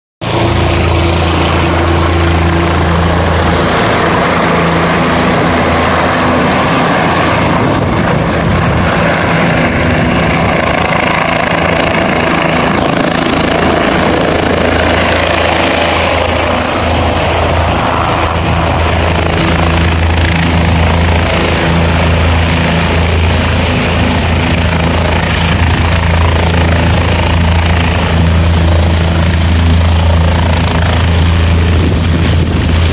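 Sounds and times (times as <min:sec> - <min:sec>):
helicopter rotor and engine: 0:00.2 - 0:32.9.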